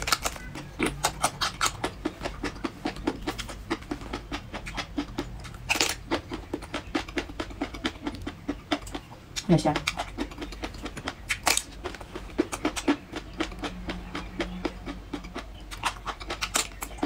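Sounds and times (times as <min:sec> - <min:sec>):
wet sucking and chewing: 0:00.0 - 0:17.0.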